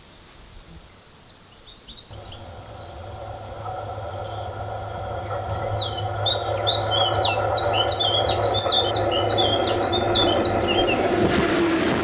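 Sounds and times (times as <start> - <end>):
songbird chirping: 1.2 - 11.2
steady low hum: 2.1 - 12.0.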